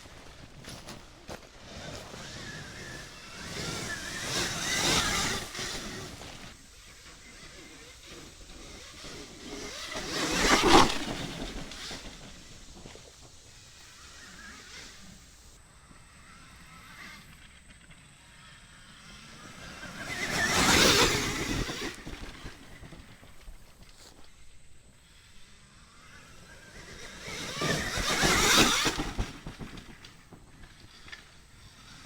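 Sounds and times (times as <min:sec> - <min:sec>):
electric dirt bike passing: 0:00.0 - 0:32.0.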